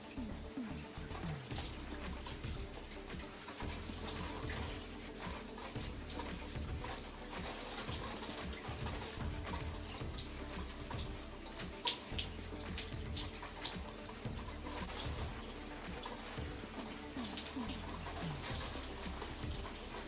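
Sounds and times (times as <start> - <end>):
shower water spraying: 0.0 - 20.0
water splashes and drips: 0.0 - 20.0.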